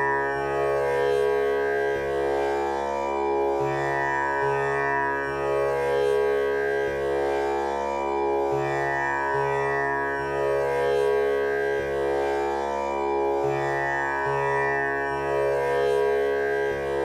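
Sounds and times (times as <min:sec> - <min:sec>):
tanpura drone: 0:00.0 - 0:17.0.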